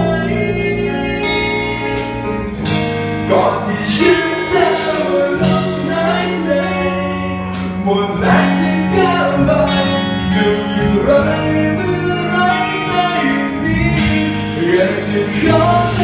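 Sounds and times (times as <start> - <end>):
person singing: 0.0 - 2.5, 3.3 - 16.0
bass guitar: 0.0 - 16.0
electric guitar: 0.0 - 16.0.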